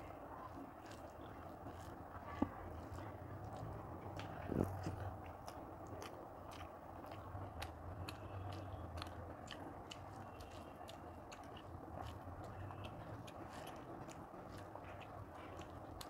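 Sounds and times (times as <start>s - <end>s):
fingers mixing food on plate: 0.0s - 16.0s
low steady hum: 0.0s - 16.0s
wet chewing clicks: 0.0s - 16.0s.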